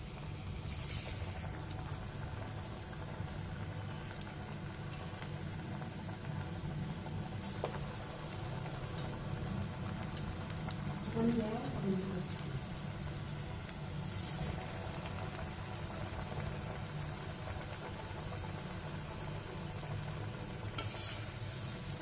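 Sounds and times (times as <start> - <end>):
oil bubbling and sizzling: 0.0 - 22.0.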